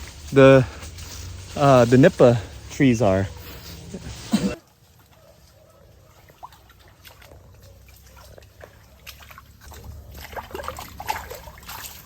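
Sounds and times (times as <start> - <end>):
feet wading through mud and water: 0.0 - 12.0.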